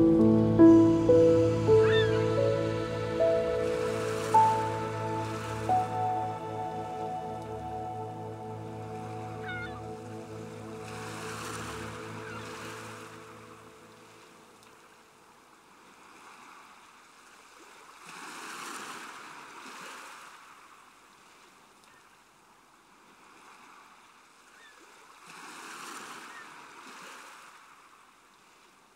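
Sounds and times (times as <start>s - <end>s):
ocean waves on shore: 0.0s - 28.9s.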